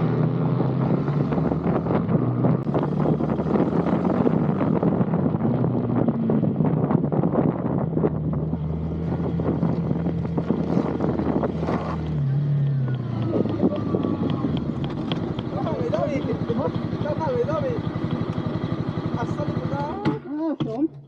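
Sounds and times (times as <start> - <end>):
wind buffeting microphone: 0.0 - 19.6
motorcycle engine running: 0.0 - 20.2.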